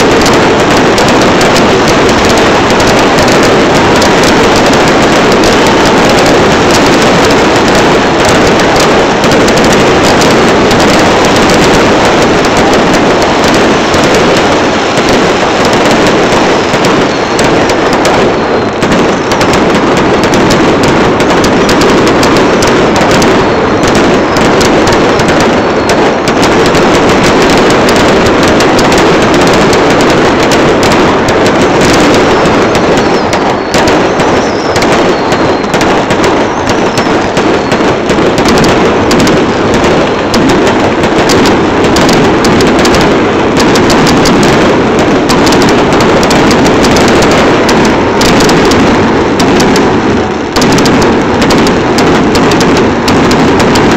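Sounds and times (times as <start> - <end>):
fireworks exploding: 0.0 - 53.9.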